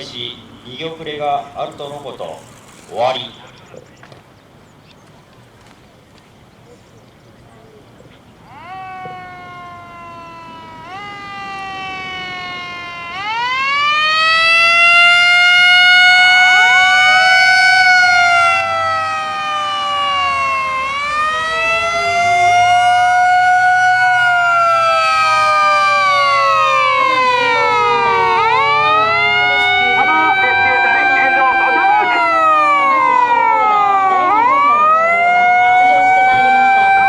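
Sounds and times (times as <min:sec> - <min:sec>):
emergency vehicle sirens wailing: 0:00.0 - 0:04.7, 0:07.2 - 0:37.0.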